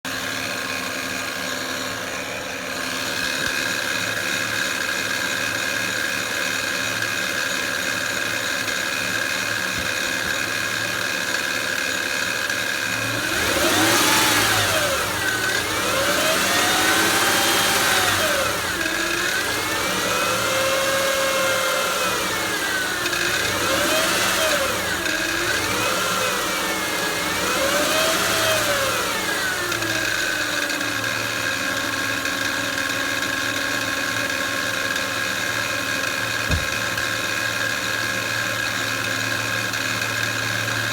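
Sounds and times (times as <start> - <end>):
car engine idling and revving: 0.1 - 40.9.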